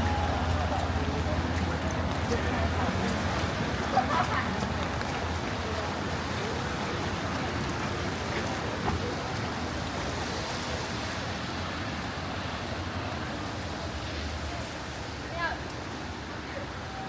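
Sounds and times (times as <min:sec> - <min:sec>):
rain: 0:00.0 - 0:17.0
street noise: 0:00.0 - 0:17.0.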